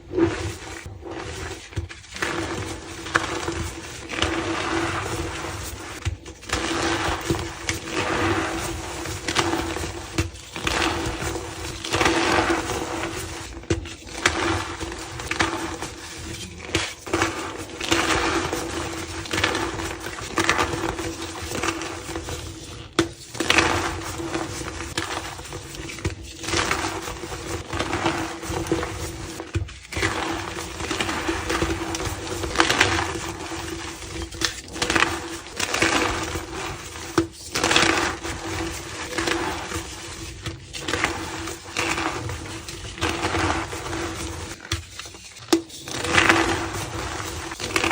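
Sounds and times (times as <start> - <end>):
chalk blocks crunching: 0.0 - 47.9.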